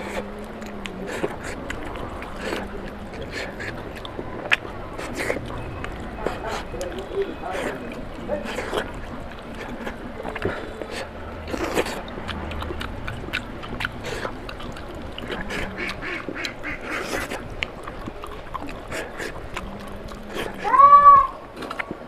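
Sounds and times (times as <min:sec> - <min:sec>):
wet chewing and lip-smacking: 0:00.0 - 0:22.0.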